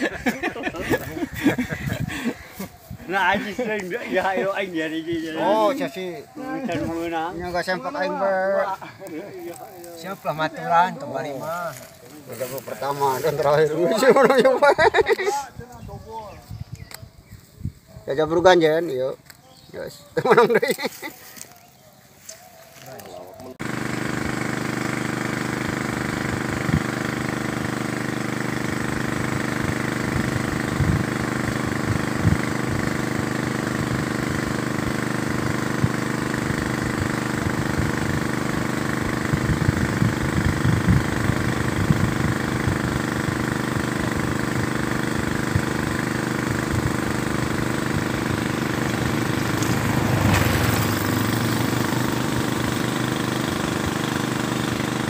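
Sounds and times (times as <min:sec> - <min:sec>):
small engine running: 0:00.0 - 0:15.5, 0:19.8 - 0:55.0.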